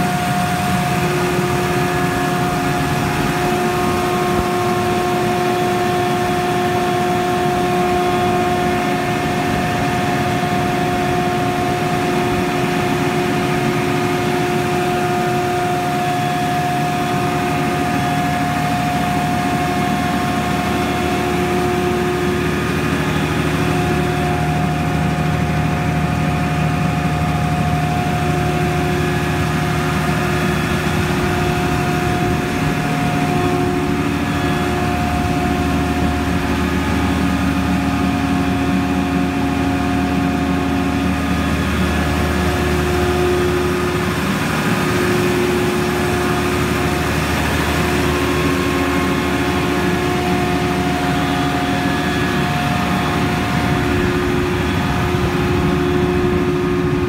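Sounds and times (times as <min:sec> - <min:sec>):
compressor whine: 0:00.0 - 0:57.0
diesel engine hum: 0:00.0 - 0:57.0.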